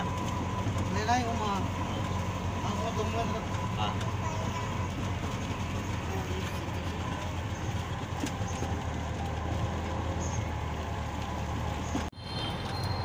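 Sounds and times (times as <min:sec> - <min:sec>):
auto-rickshaw engine running: 0:00.0 - 0:13.0
road noise: 0:00.0 - 0:13.0.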